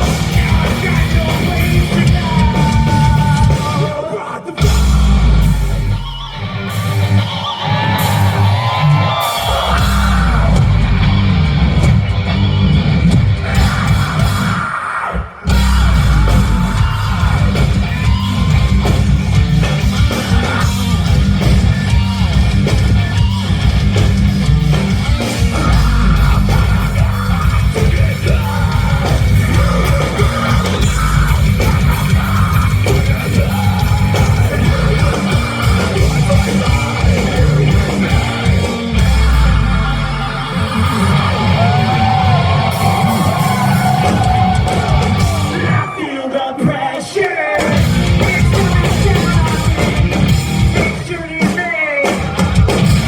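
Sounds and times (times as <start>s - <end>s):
rock band playing live: 0.0s - 53.0s
shouted and sung vocals: 0.0s - 53.0s.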